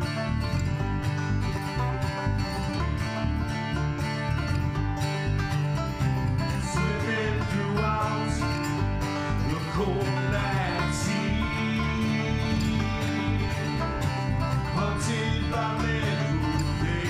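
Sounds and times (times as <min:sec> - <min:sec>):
upbeat bluegrass music: 0:00.0 - 0:17.0.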